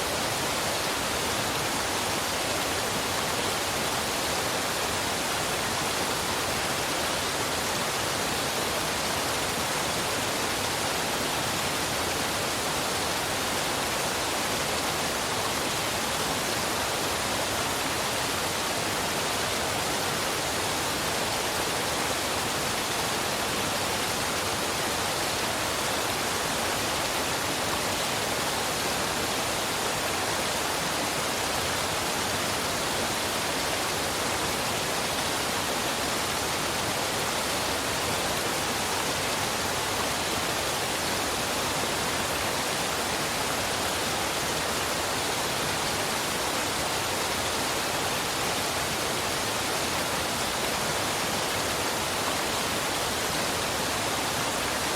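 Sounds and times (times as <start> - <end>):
waterfall and river rushing: 0.0 - 54.9.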